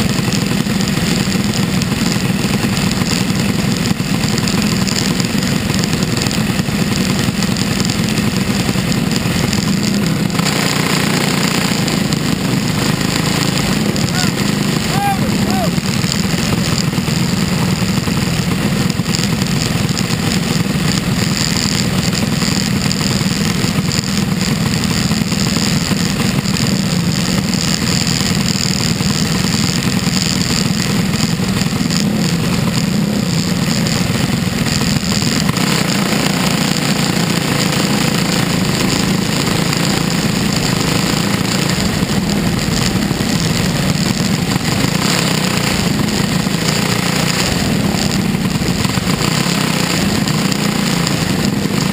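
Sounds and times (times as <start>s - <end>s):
race car engine running: 0.0s - 51.9s.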